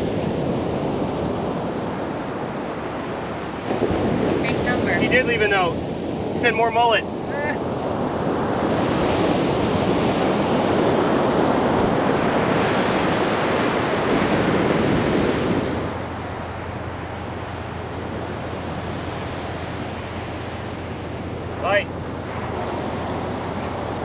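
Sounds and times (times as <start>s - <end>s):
ocean surf breaking on beach: 0.0s - 24.0s
wind on microphone: 0.0s - 24.0s.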